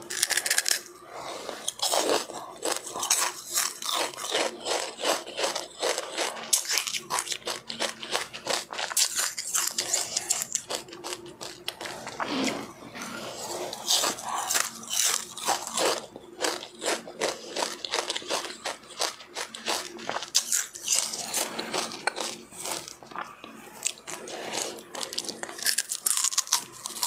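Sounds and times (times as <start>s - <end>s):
close-up crunchy chewing: 0.0s - 12.6s, 13.4s - 27.0s.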